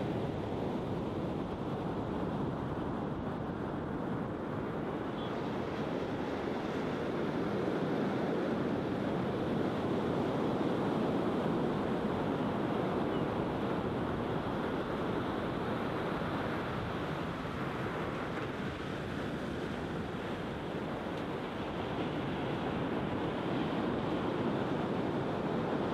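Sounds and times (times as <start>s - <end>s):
waves breaking on beach: 0.0s - 25.9s.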